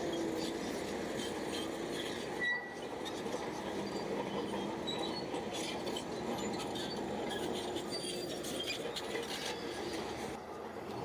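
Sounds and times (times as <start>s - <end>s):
crawler tracks squealing and clattering: 0.0s - 10.4s.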